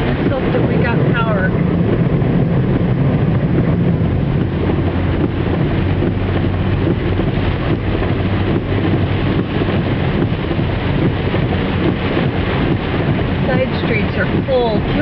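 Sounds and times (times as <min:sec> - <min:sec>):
low engine hum: 0:00.0 - 0:15.0
rain rushing: 0:00.0 - 0:15.0
tyres on wet road: 0:00.0 - 0:15.0.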